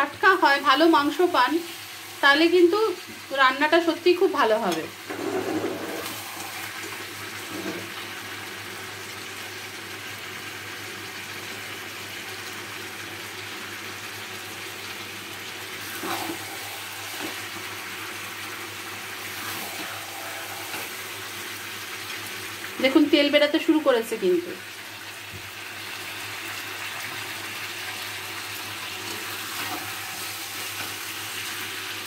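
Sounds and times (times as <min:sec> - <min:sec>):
curry sizzling in a pan: 0:00.0 - 0:32.0.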